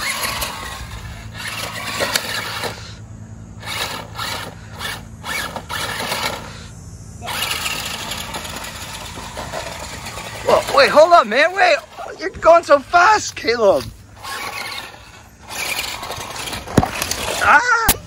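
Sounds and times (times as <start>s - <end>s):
toy truck motors whirring: 0.0s - 18.0s.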